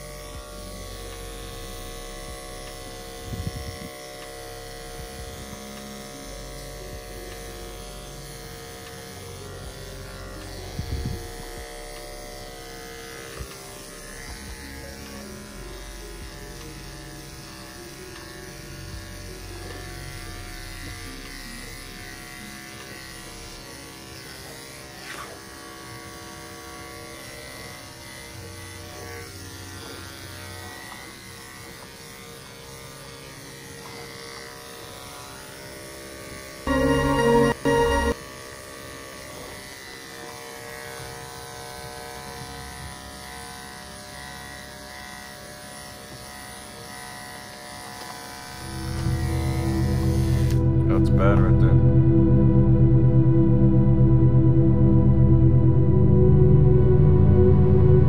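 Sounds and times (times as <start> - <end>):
electric clippers buzzing: 0.0 - 50.9.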